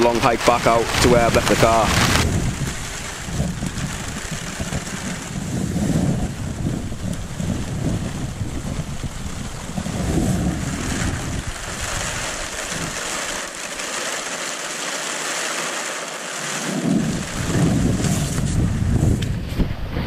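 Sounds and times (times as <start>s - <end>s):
wind rumbling on microphone: 0.0s - 13.8s, 16.4s - 20.0s
rain hissing: 0.0s - 20.0s.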